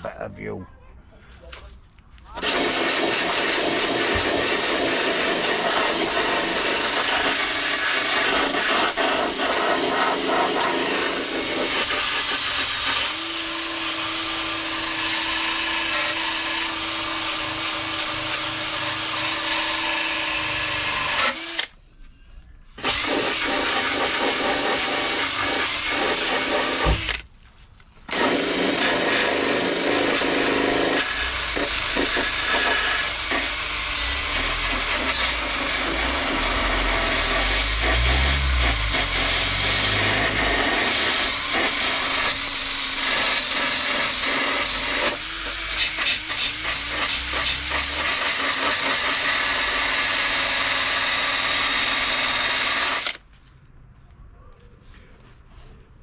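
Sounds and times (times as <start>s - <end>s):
electric drill grinding metal: 2.4s - 21.8s, 22.8s - 27.2s, 28.1s - 53.2s.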